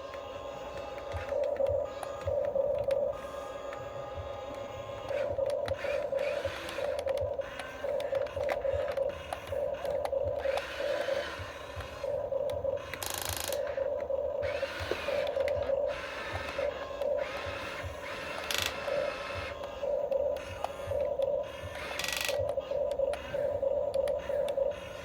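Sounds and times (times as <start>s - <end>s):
brief motor whirs: 0.0s - 12.2s, 12.8s - 23.5s
small clicks: 0.0s - 14.1s, 16.3s - 25.0s.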